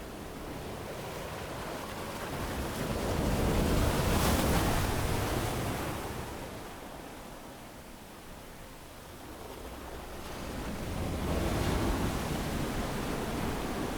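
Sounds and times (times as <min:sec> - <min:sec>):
ocean surf on beach: 0:00.0 - 0:13.9.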